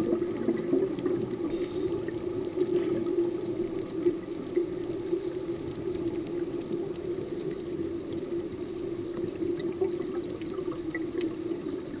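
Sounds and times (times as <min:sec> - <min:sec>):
underwater low hum: 0:00.0 - 0:12.0
faint clicks: 0:00.1 - 0:12.0.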